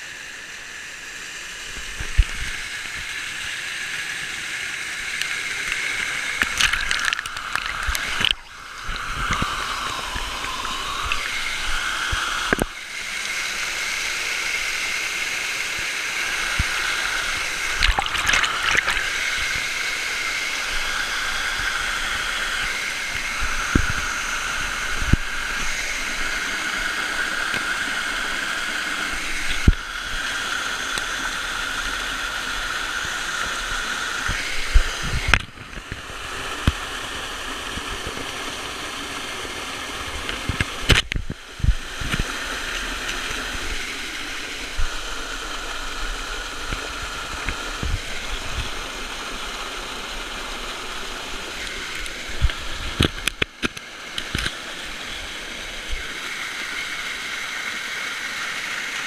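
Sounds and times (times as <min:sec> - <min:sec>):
waterfall rushing: 0:01.7 - 0:59.0.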